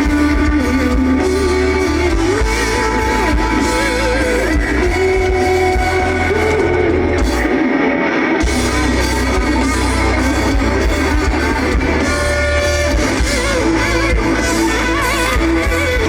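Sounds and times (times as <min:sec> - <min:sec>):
lead guitar: 0:00.0 - 0:16.0
rock band playing live: 0:00.0 - 0:16.0.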